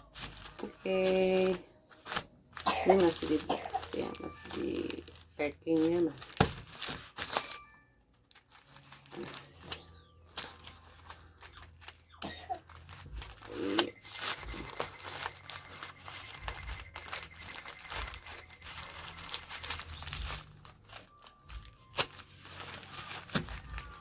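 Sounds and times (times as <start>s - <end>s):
packaging crinkling and tearing: 0.0s - 24.0s.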